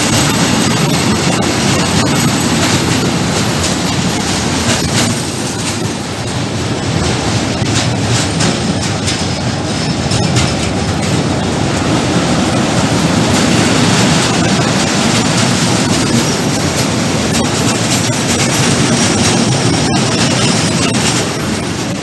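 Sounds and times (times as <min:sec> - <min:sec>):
train wagons rumbling: 0:00.0 - 0:22.0
wheels clicking over rail joints: 0:00.0 - 0:22.0.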